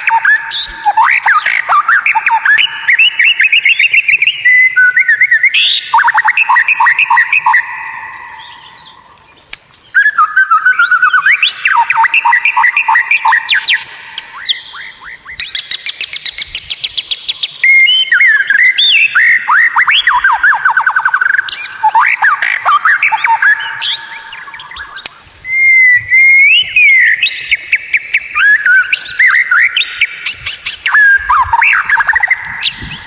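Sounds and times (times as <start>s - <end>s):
bird singing whistled song: 0.0s - 33.0s.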